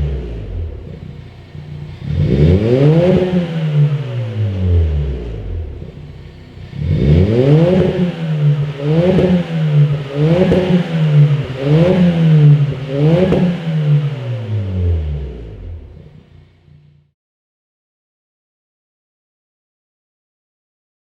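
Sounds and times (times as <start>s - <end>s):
car engine revving: 0.0s - 17.1s.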